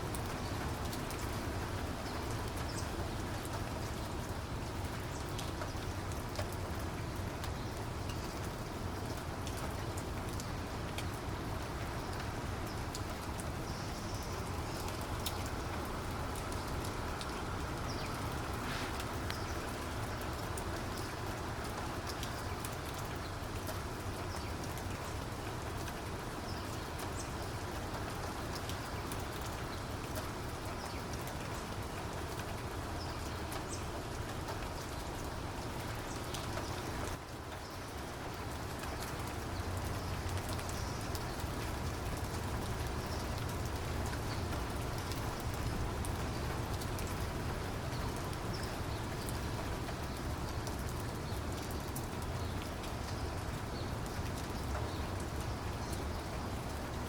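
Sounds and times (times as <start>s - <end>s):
raindrops ticking: 0.0s - 57.0s
steady rain falling: 0.0s - 57.0s.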